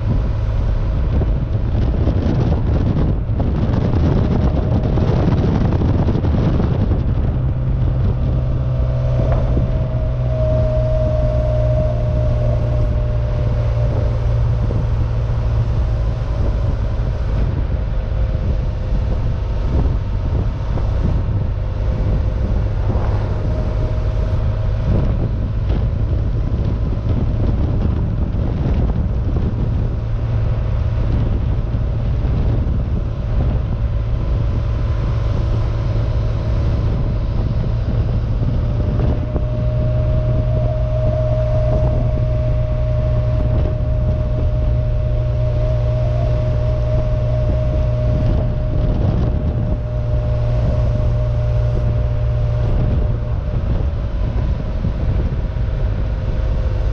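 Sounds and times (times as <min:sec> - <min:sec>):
car engine cruising: 0:00.0 - 0:56.9
wind on microphone: 0:00.0 - 0:56.9.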